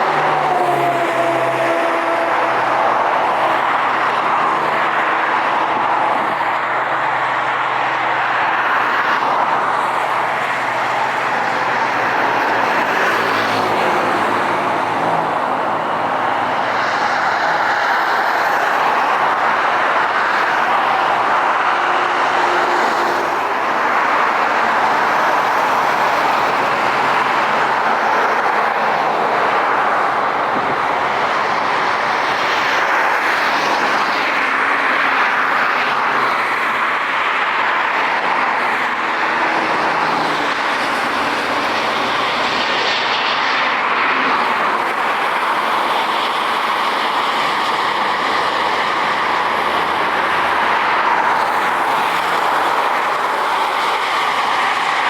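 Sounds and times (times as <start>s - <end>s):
jet engines running: 2.6s - 55.0s.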